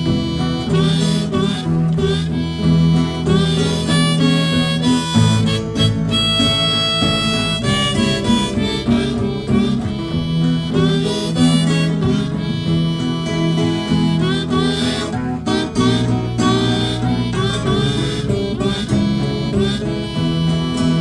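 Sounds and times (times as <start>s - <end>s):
blues harmonica: 0.0s - 21.0s
strummed guitar: 0.0s - 21.0s.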